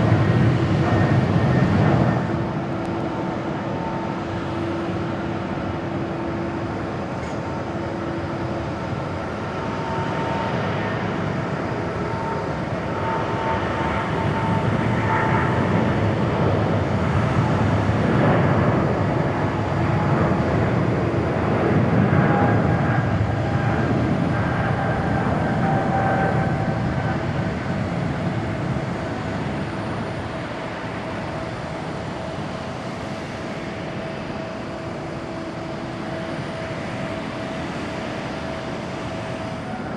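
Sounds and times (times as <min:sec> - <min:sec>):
jet engine roar taking off: 0:00.0 - 0:39.9.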